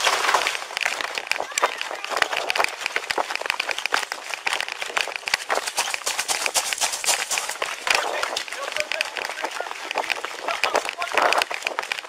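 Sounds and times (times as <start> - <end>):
body camera clattering: 0.0 - 12.0
running footsteps on pavement: 0.0 - 12.0.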